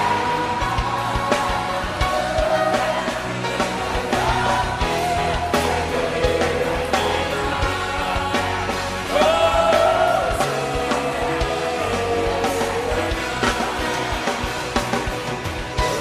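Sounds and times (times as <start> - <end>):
worship band music: 0.0 - 16.0.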